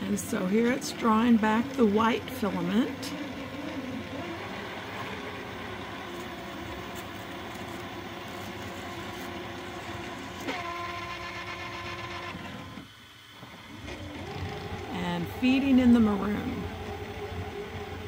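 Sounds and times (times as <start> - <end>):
filament feed motor whirring: 0.0 - 18.0.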